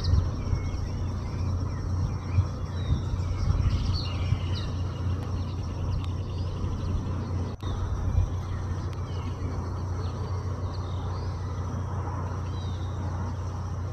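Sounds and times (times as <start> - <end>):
low outdoor rumble: 0.0 - 13.9
small birds chirping: 0.0 - 13.9.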